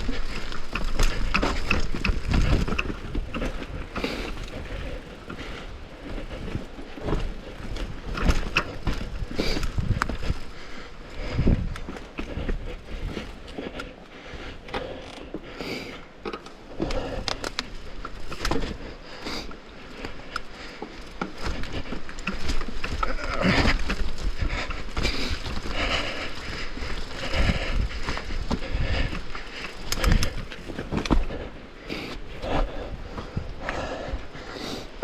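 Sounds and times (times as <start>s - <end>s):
bike freehub ratcheting: 0.0s - 13.4s, 16.4s - 31.3s
bike knocking on roots and rocks: 0.0s - 35.0s
bike rattling: 0.0s - 35.0s.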